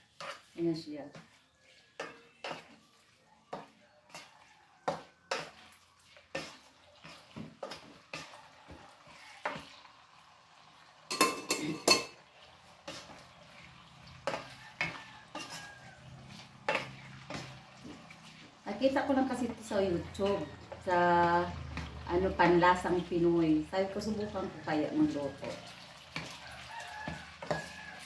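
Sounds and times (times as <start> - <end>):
spatula scraping a pot: 0.0 - 10.0, 11.1 - 22.1, 24.0 - 28.0
meat sizzling: 0.0 - 28.0.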